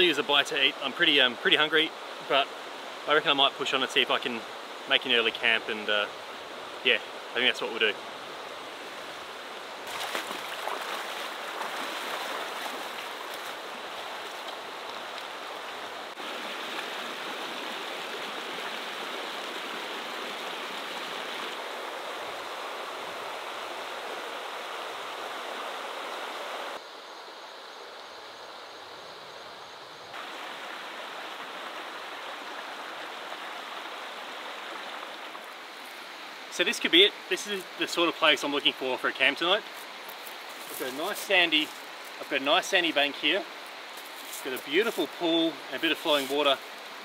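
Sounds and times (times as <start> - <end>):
river running over stones: 0.0 - 26.8, 30.1 - 47.0.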